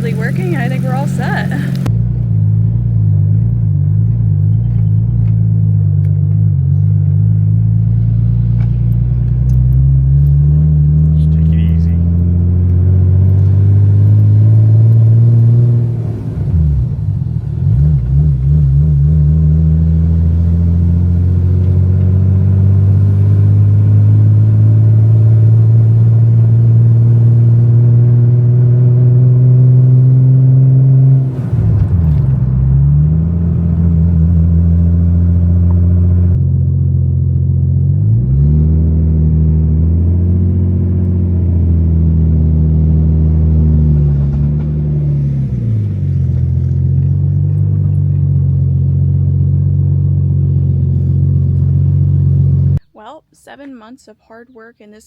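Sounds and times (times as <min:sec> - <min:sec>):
turbocharged car engine driving: 0:00.0 - 0:52.9.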